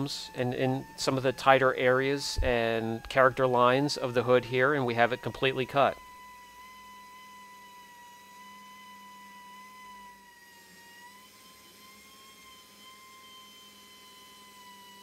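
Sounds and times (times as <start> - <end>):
pneumatic polisher whining: 0.0 - 15.0.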